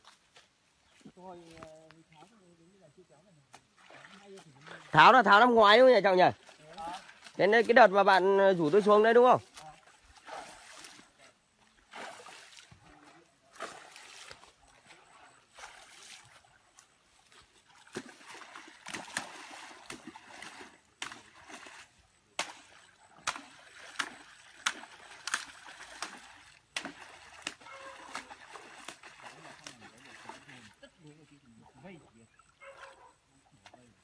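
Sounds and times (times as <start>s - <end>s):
swimmers splashing water: 3.6s - 34.0s.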